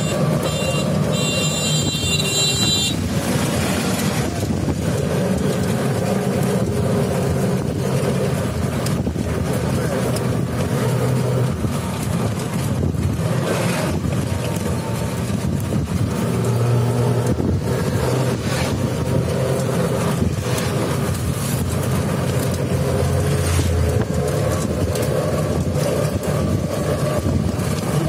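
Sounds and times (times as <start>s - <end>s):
low engine hum: 0.0s - 28.0s
road noise rushing: 0.0s - 28.0s.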